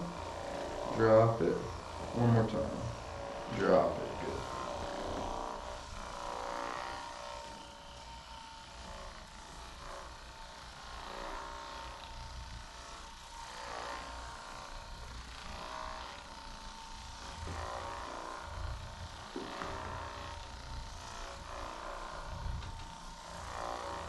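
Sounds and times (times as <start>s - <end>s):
small electric motor humming: 0.0s - 24.0s.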